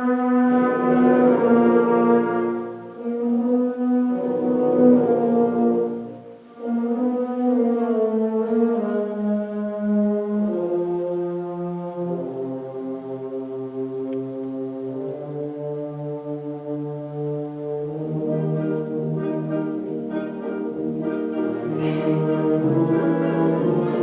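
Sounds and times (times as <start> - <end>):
slow brass music: 0.0 - 24.0.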